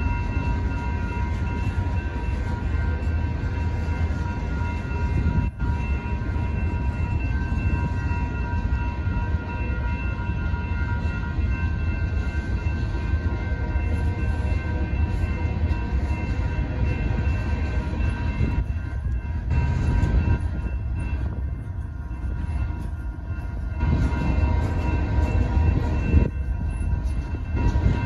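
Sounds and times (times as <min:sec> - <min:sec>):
crossing signal bells ringing: 0:00.0 - 0:28.0.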